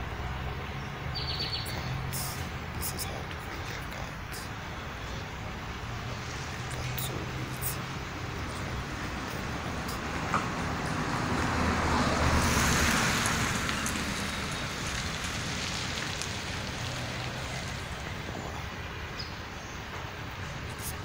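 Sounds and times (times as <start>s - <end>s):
outdoor traffic noise: 0.0s - 21.0s
vehicle passing: 0.0s - 21.0s.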